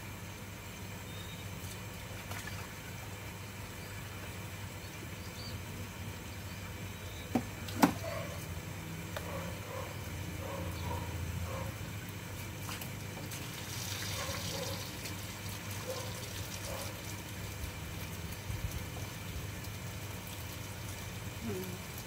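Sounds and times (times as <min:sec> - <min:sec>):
garden hose water splashing: 0:01.1 - 0:22.0.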